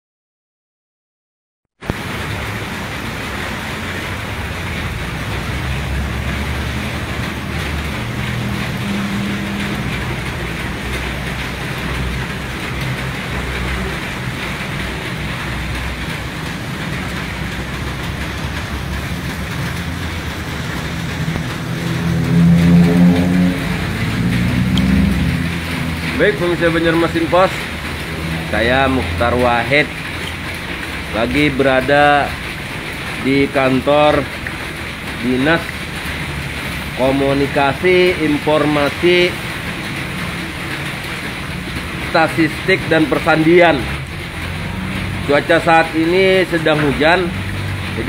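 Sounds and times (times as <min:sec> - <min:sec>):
heavy rain hissing: 0:01.9 - 0:48.0.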